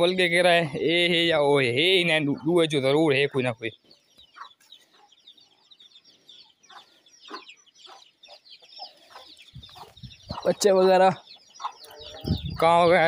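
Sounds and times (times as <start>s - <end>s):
chickens clucking: 0.0s - 13.0s
high chirping: 1.8s - 13.0s.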